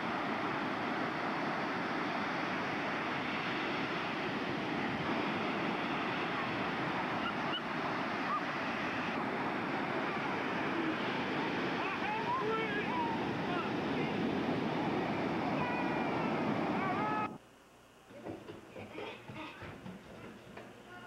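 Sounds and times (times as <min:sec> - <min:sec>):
ocean surf breaking: 0:00.0 - 0:17.4.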